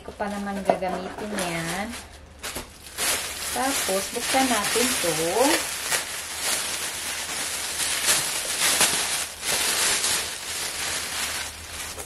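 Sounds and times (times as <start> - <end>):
plastic packaging crinkling: 0.2 - 12.0.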